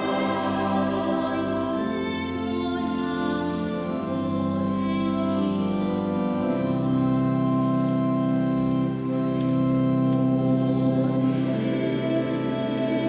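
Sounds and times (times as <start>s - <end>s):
choir singing held chords: 0.0s - 8.9s, 10.2s - 13.0s
sustained instrumental accompaniment: 0.0s - 13.0s.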